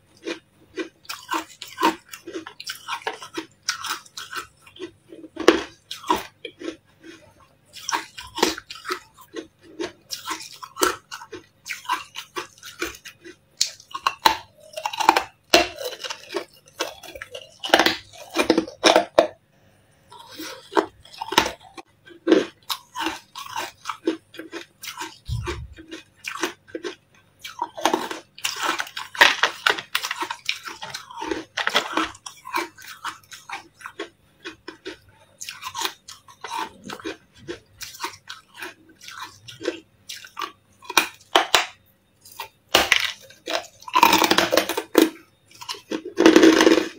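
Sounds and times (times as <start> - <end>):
chewing crunchy ice: 0.0 - 19.4, 20.1 - 46.9.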